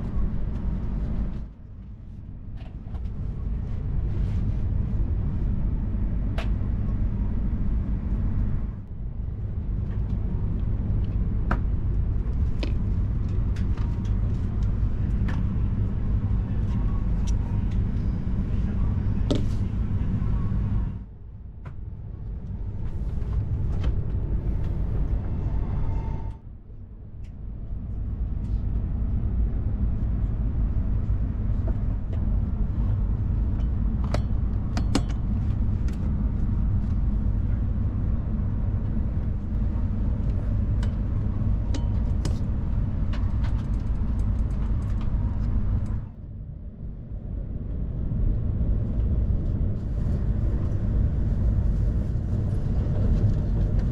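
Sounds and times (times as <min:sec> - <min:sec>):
low rumble of train: 0:00.0 - 0:53.9.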